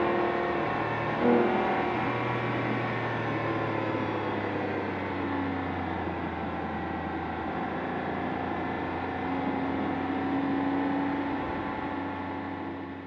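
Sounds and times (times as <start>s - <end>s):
car engine cruising: 0.0s - 13.0s.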